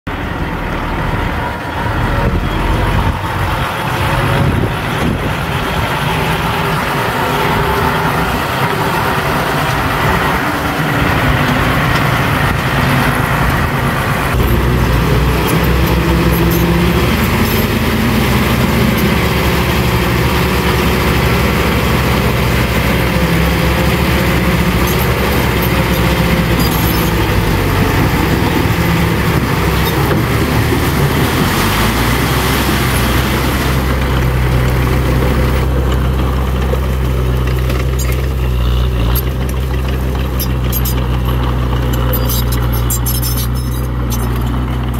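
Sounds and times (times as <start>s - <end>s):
heavy machinery diesel engine: 0.1s - 44.9s.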